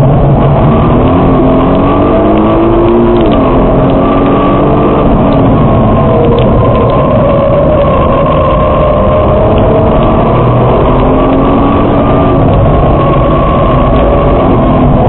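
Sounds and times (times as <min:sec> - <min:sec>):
car engine from inside cabin: 0:00.0 - 0:15.0
wind and tyre noise: 0:00.0 - 0:15.0.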